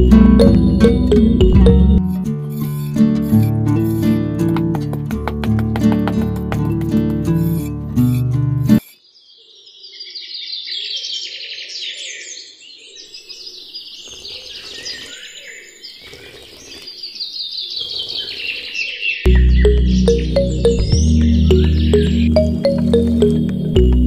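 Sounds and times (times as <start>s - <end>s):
small birds chirping: 2.0s - 24.0s.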